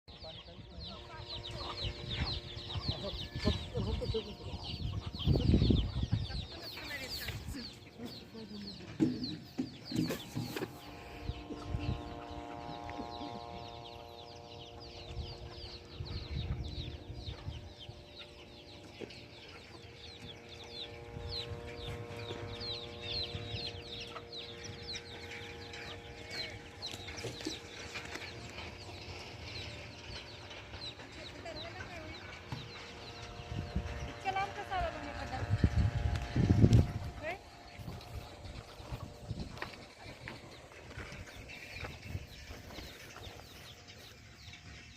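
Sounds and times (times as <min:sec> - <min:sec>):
steady droning hum: 0:00.1 - 0:44.9
chickens clucking: 0:00.2 - 0:44.9.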